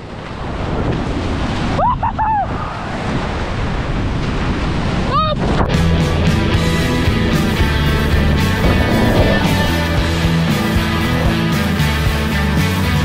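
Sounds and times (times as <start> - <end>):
wind on microphone: 0.0 - 11.5
surf washing over sand: 0.0 - 13.0.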